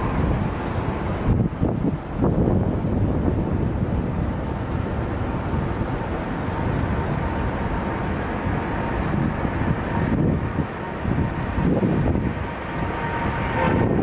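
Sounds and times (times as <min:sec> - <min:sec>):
jet engines rumbling: 0:00.0 - 0:14.0
wind buffeting microphone: 0:00.0 - 0:14.0.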